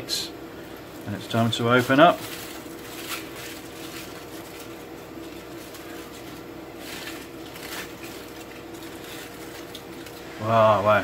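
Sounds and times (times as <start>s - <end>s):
steady background hum: 0.0s - 11.0s
aluminium foil crinkling: 0.6s - 11.0s.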